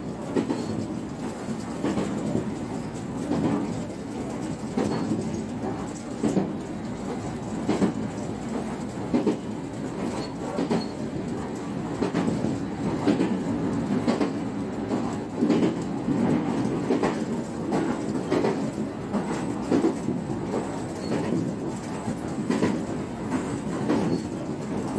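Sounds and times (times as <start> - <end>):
train rumble: 0.0 - 24.9.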